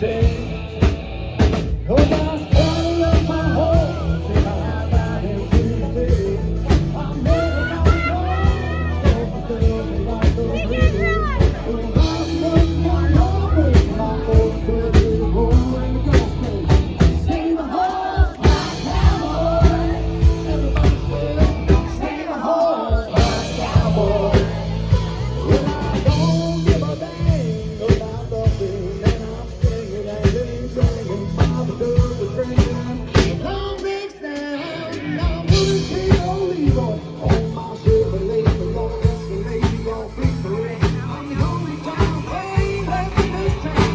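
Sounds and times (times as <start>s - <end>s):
drum kit beat: 0.0s - 43.9s
live rock band playing: 0.0s - 43.9s
person singing: 1.8s - 43.9s.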